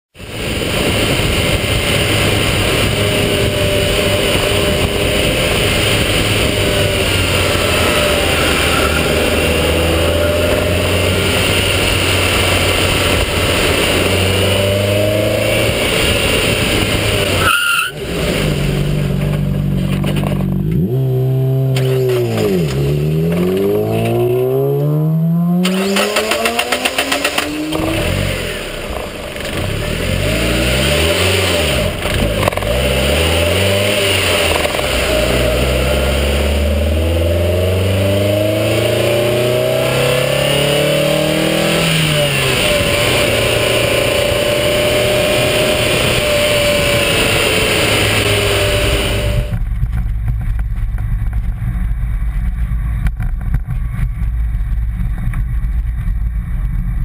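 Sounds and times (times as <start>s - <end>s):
car engine: 0.1s - 57.0s
tyre and wind noise: 0.2s - 57.0s.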